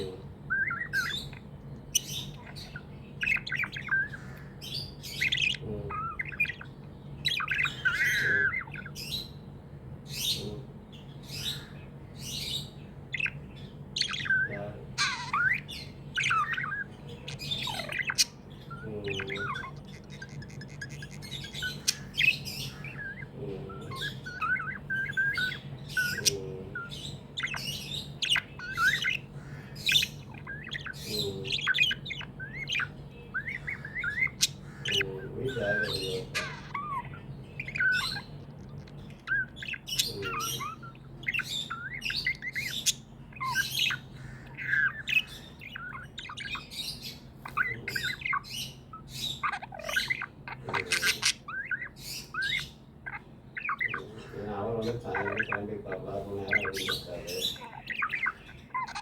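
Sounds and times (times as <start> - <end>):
budgerigars chirping and warbling: 0.0 - 59.0
harsh bird squawk: 0.0 - 59.0.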